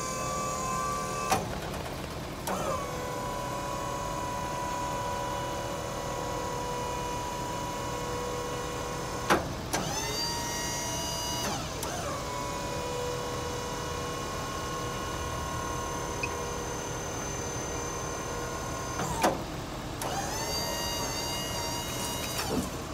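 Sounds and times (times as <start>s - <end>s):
hydraulic pump motor whining: 0.0s - 1.5s, 2.4s - 22.9s.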